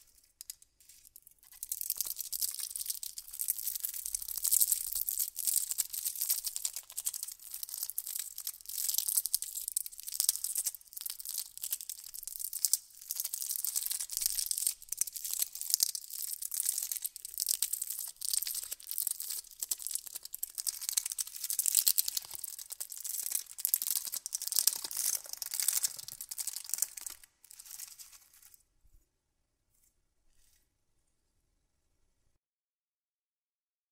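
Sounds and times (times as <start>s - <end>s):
candy wrappers crinkling: 0.0s - 28.6s.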